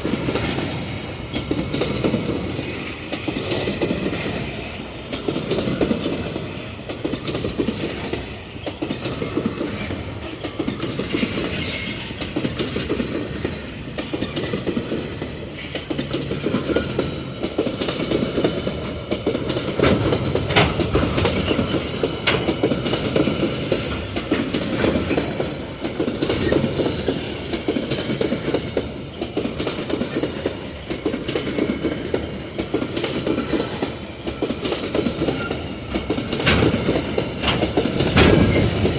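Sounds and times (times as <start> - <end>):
freight train wagons rumbling: 0.0 - 38.9
wheels clicking over rail joints: 0.0 - 38.9.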